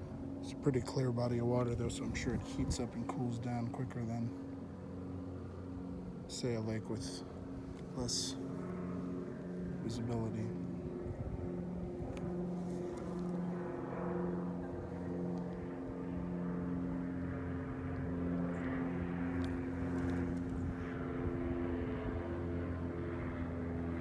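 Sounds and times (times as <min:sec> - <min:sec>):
engine drone: 0:00.0 - 0:24.0.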